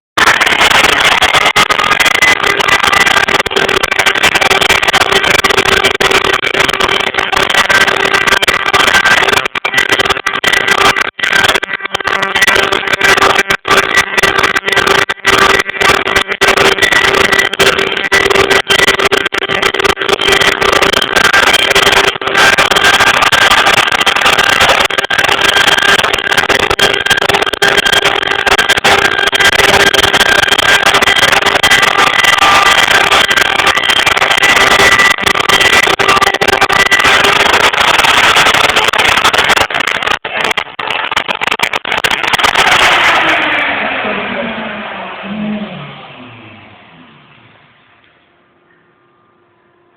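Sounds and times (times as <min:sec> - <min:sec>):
router motor noise: 0:00.2 - 0:48.4
whining stepper motors: 0:00.2 - 0:49.9.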